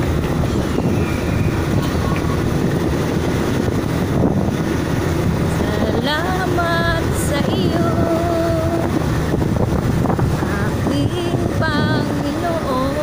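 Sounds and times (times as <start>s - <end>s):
road noise: 0.0s - 13.0s
wind rushing over microphone: 0.0s - 13.0s.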